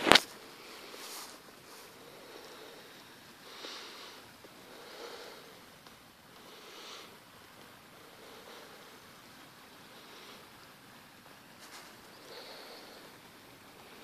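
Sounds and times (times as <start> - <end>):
soft sniffs: 0.5 - 14.0.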